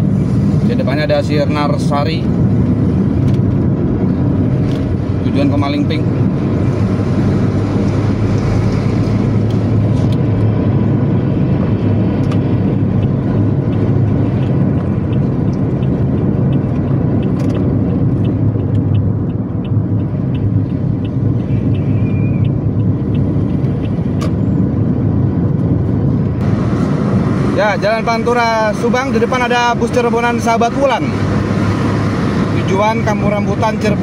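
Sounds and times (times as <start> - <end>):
engine and road noise in cabin: 0.0 - 34.0.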